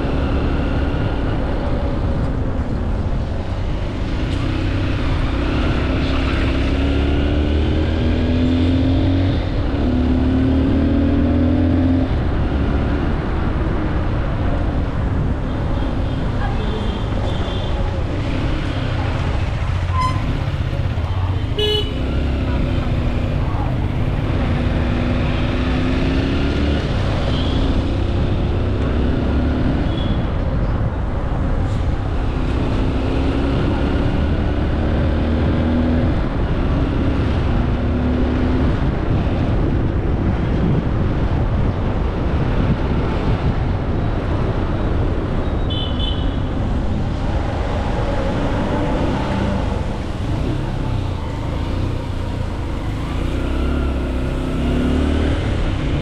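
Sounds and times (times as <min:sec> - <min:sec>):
traffic engines rumbling: 0:00.0 - 0:56.0.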